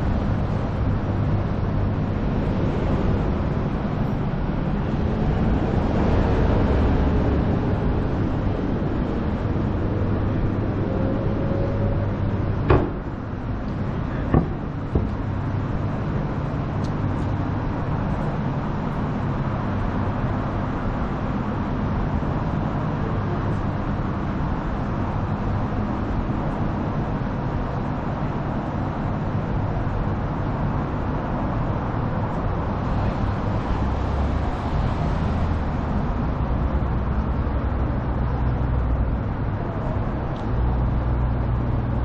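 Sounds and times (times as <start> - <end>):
vehicle approaching: 0.0 - 27.8, 31.0 - 42.0
engine rumble: 0.0 - 42.0.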